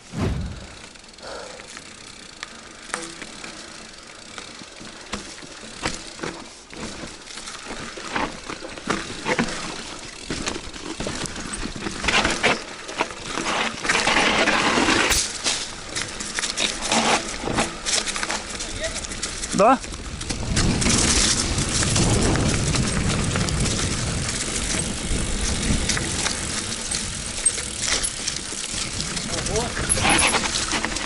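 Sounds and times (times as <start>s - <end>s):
stones crunching on rocky trail: 4.4s - 31.0s.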